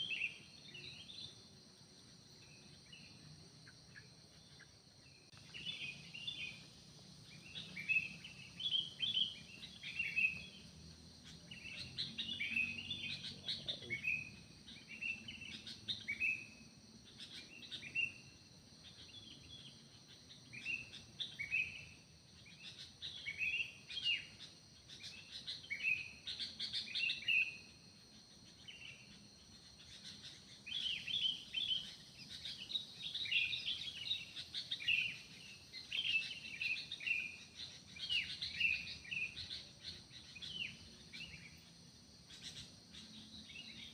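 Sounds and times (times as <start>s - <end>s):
birds chirping and singing: 0.0s - 43.9s.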